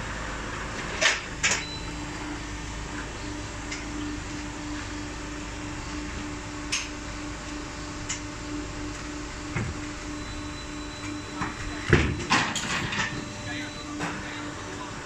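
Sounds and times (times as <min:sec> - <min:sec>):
machinery running: 0:01.3 - 0:15.0
pulsing hum: 0:01.6 - 0:15.0.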